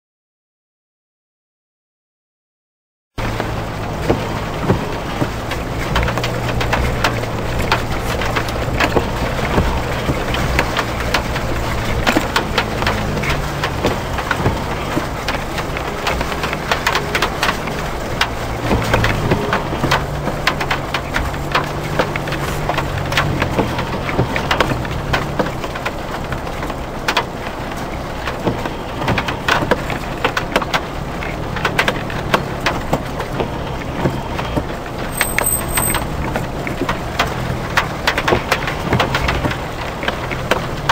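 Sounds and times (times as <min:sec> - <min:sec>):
car engine running: 0:03.2 - 0:40.9
knocks and rattles over ruts: 0:03.2 - 0:40.9.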